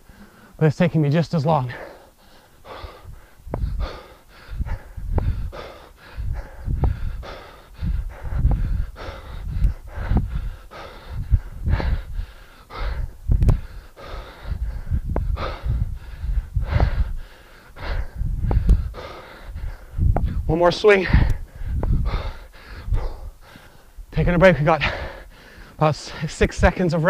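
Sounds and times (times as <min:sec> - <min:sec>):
man breathing hard: 0:00.0 - 0:00.6, 0:01.6 - 0:26.7.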